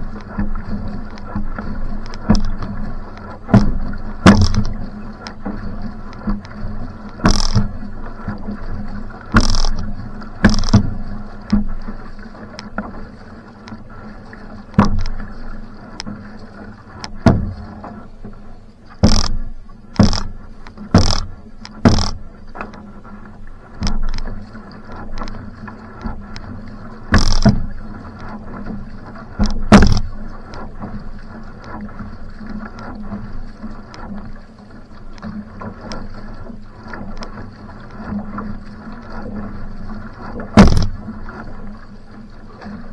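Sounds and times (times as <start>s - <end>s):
paddle knocks and splashes: 0.0s - 42.9s
water rushing past canoe hull: 0.0s - 42.9s.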